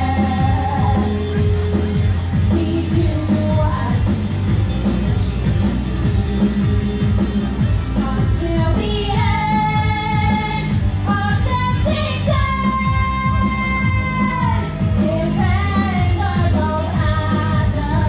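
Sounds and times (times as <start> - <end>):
upbeat pop-rock song: 0.0 - 18.0.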